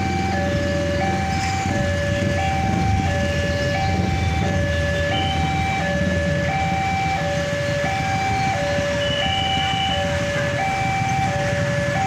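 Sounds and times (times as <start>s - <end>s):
level crossing warning alarm: 0.0s - 12.0s
road traffic rumble: 0.0s - 12.0s.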